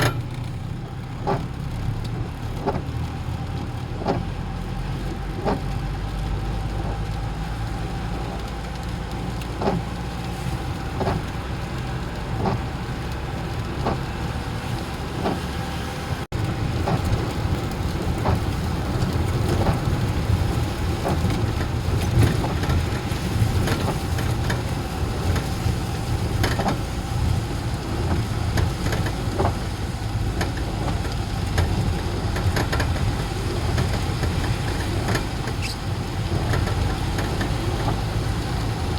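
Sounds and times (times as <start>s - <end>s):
rain tapping: 0.0s - 38.9s
vehicle engine rumble: 0.0s - 38.9s.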